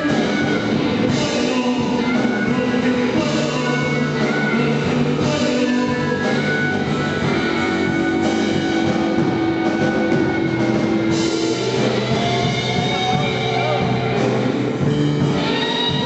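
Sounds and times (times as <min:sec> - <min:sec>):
rock music with drum kit: 0:00.0 - 0:16.0.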